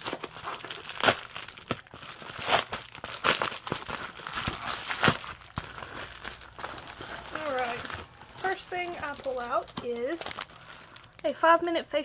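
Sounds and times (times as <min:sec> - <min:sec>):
package wrapping tearing and rustling: 0:00.0 - 0:11.3.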